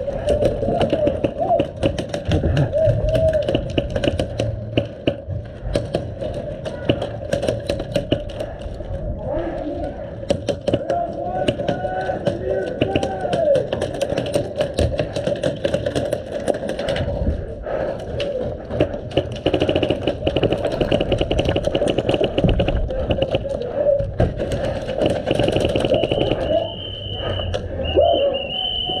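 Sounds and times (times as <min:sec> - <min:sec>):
airsoft guns firing bursts: 0:00.0 - 0:08.7, 0:10.2 - 0:17.0, 0:18.3 - 0:26.9
distant voices: 0:00.0 - 0:29.0.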